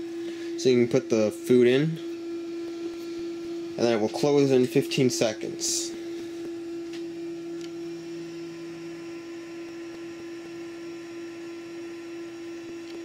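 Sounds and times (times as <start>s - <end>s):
fainter lower hum tone: 0.0s - 13.0s
steady electrical hum: 0.0s - 13.0s.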